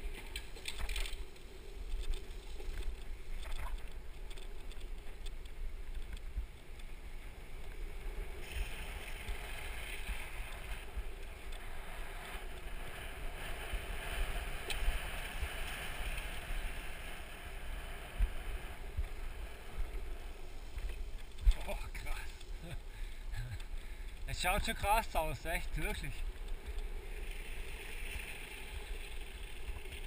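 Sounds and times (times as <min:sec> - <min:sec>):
wheels rolling over asphalt: 0:00.0 - 0:30.0.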